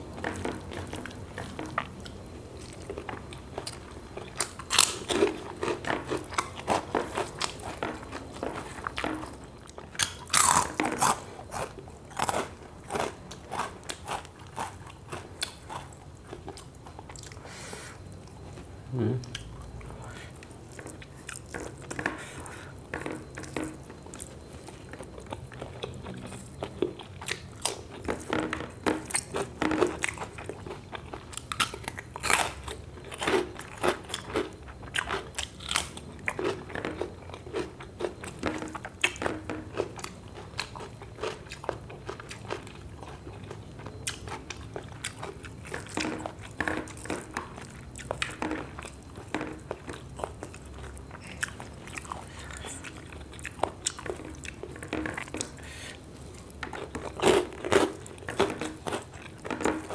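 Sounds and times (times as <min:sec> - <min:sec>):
person chewing crispy food: 0:00.0 - 0:59.9.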